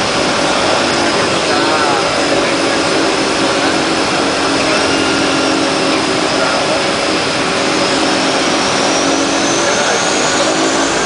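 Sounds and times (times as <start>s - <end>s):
turboprop engines droning: 0.0s - 11.0s.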